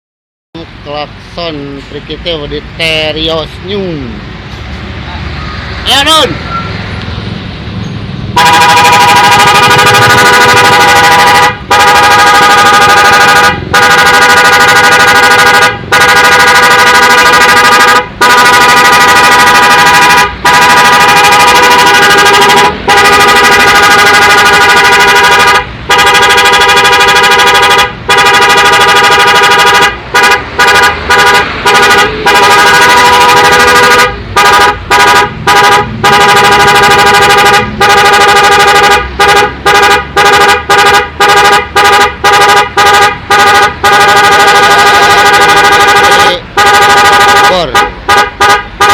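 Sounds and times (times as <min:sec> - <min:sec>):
car horn blasts and toots: 0:08.3 - 0:48.9.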